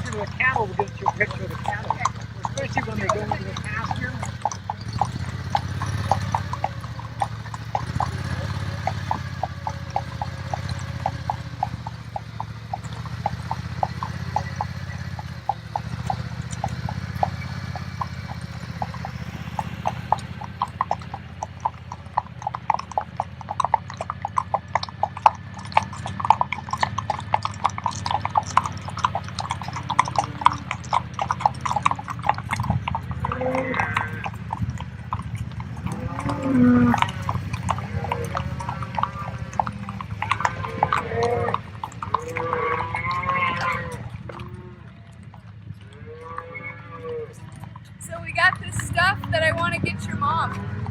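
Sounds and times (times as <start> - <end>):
horse hooves clip-clopping: 0.0 - 50.9.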